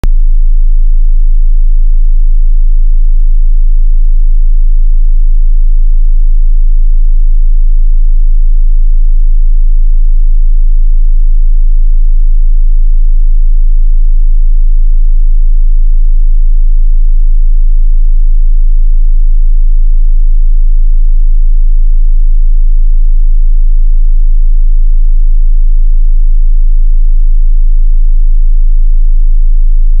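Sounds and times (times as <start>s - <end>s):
deep bass sine tone: 0.0s - 30.0s.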